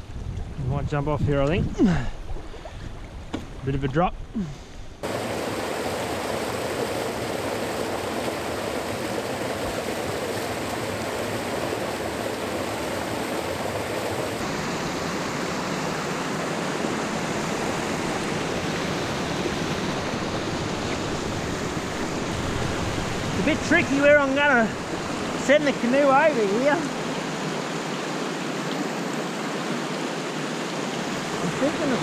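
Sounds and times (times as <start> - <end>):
water rushing over rocks: 5.0 - 32.0.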